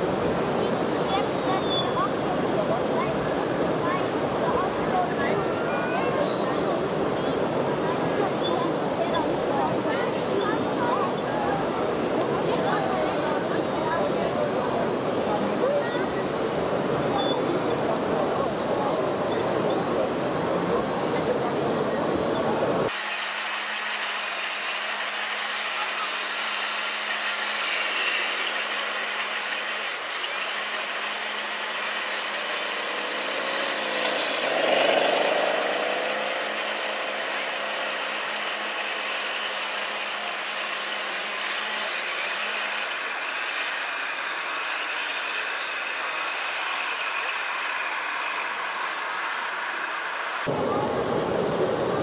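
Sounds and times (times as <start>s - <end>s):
engine-like pitched sound: 0.0s - 41.5s, 44.5s - 52.0s
steady mechanical hum: 0.0s - 52.0s.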